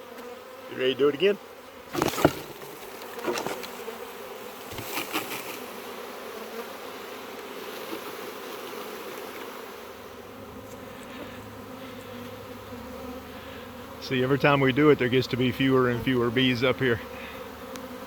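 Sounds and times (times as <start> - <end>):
bee swarm buzzing: 0.0 - 18.0.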